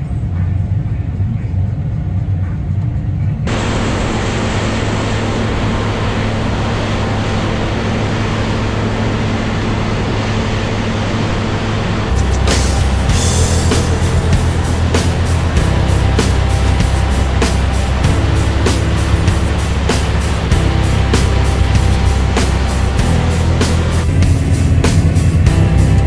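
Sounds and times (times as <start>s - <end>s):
muffled engine drone: 0.0s - 26.0s
grain pouring with rushing hiss: 3.5s - 26.0s.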